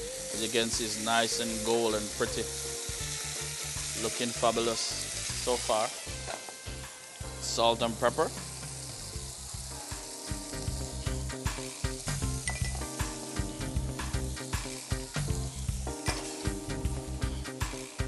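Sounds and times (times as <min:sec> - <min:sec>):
background music: 0:00.0 - 0:18.0
food sizzling in a skillet: 0:00.0 - 0:18.0.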